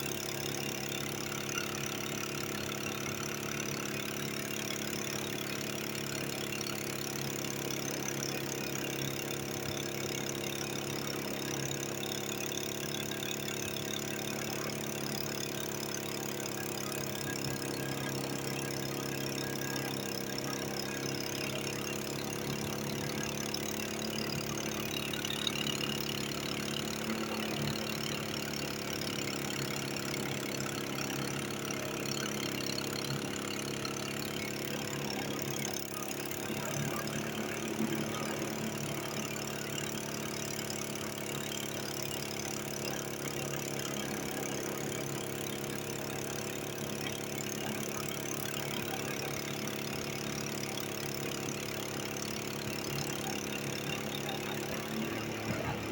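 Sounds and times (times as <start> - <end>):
engine humming steadily: 0.0 - 55.9.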